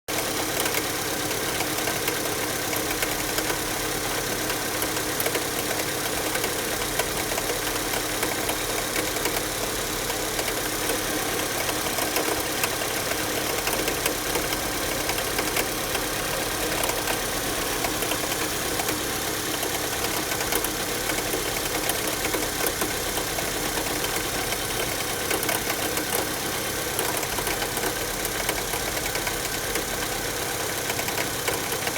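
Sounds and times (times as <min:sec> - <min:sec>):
car engine running: 0:00.1 - 0:31.9.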